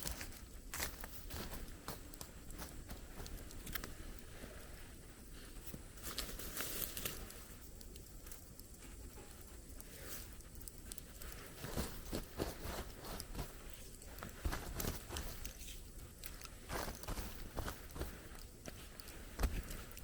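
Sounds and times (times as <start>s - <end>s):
faint steady hiss: 0.0s - 20.0s
light crackles and taps: 0.0s - 20.0s.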